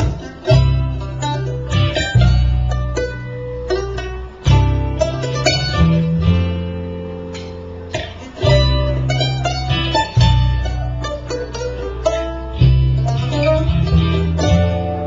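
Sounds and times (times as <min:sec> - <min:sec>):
acoustic guitar picking: 0:00.0 - 0:15.0
plucked upright bass: 0:00.0 - 0:15.0.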